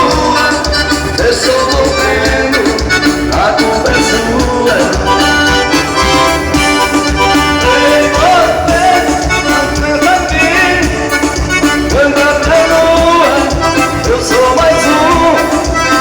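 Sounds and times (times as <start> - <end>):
accordion melody: 0.0 - 16.0
band playing steady beat: 0.0 - 16.0.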